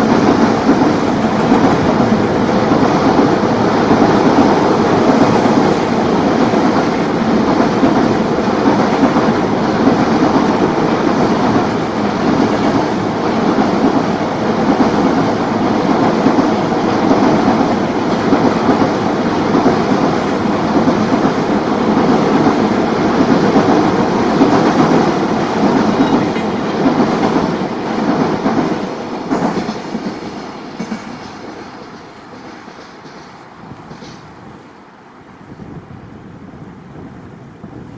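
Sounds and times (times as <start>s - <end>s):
train wheels clattering on bridge: 0.0s - 34.4s.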